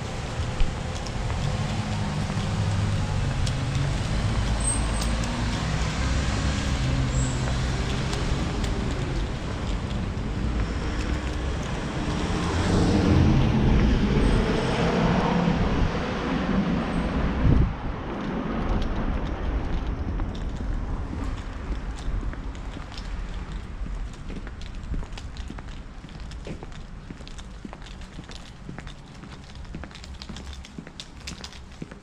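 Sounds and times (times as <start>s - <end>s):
car engines and tyres passing: 0.0s - 32.0s.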